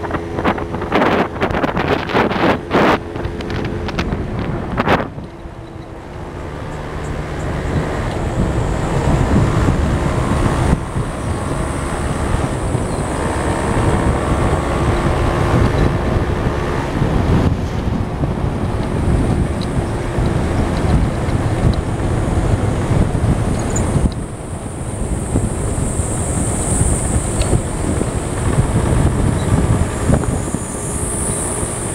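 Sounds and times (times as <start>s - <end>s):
vehicle engine and road noise: 0.0s - 31.9s
wind buffeting on microphone: 0.0s - 31.9s.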